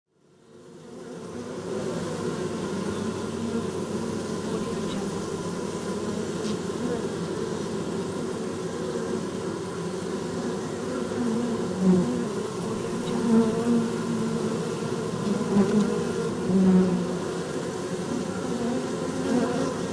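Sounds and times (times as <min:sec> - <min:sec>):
bees buzzing: 0:00.3 - 0:19.9.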